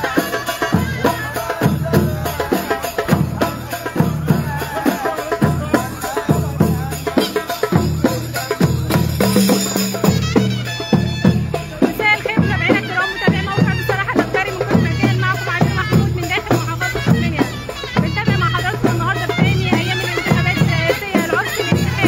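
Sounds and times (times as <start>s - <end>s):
heavy repeating drum beat: 0.0s - 22.0s.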